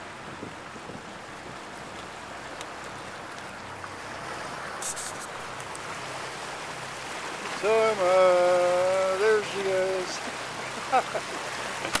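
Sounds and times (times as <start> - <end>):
water and wind rushing: 0.0 - 12.0.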